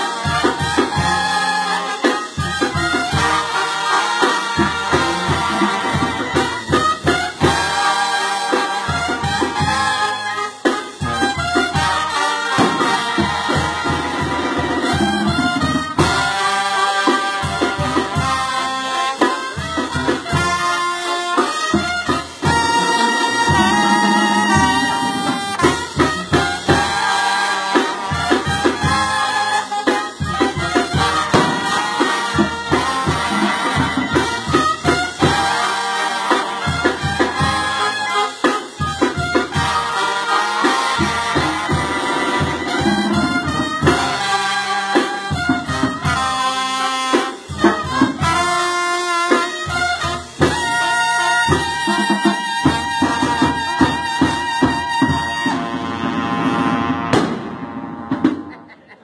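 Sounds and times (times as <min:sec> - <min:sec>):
steady drum beat: 0:00.0 - 0:58.9
brass band playing: 0:00.0 - 0:59.0.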